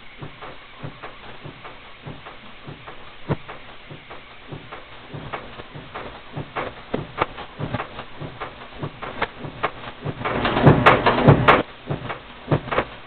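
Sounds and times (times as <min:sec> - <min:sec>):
punch machine clicking and knocking: 0:00.2 - 0:13.0.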